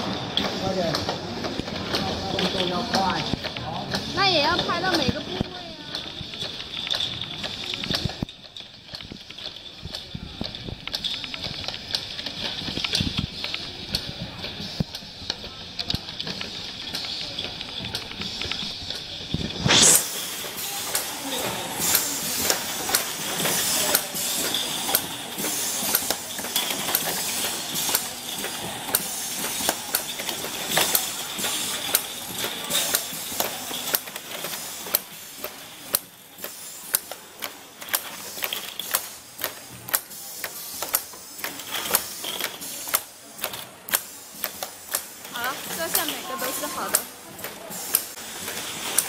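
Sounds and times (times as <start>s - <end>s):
machine clicking and clacking: 0.0s - 19.5s, 20.2s - 49.0s.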